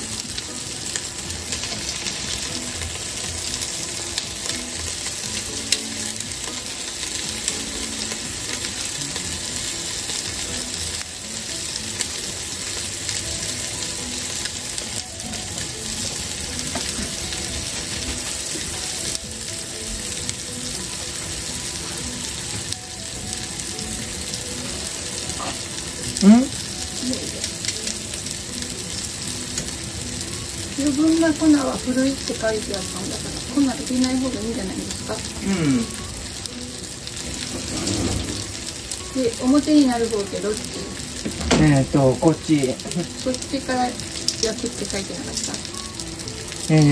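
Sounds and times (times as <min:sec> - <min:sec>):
fish sizzling in frying pan oil: 0:00.0 - 0:46.9.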